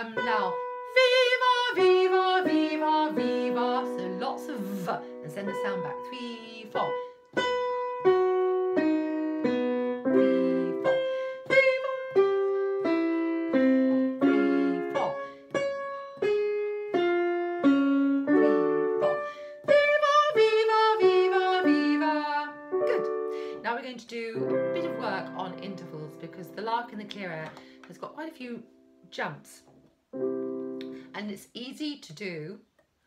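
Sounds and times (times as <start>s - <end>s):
piano single notes: 0.0s - 31.2s.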